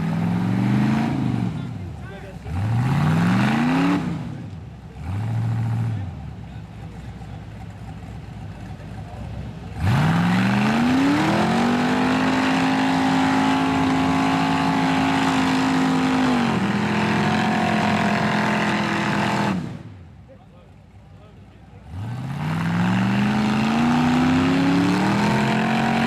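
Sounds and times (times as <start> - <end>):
engine idling and revving: 0.0 - 26.0.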